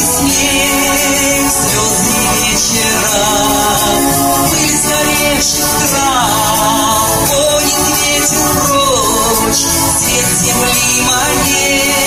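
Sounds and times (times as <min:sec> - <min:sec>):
music with singing: 0:00.0 - 0:12.0.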